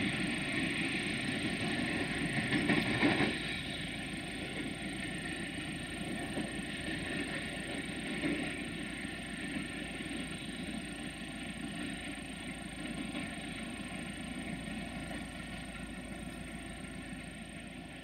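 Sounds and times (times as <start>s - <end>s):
diesel locomotive engine running: 0.0s - 18.0s.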